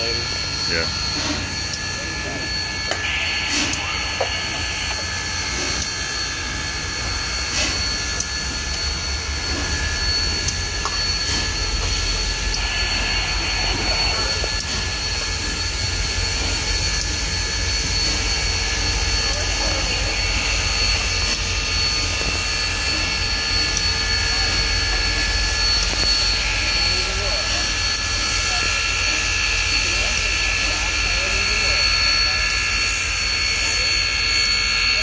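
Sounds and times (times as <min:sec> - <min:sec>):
steam locomotive rumbling: 0:00.0 - 0:35.0
thin high whine: 0:00.0 - 0:35.0.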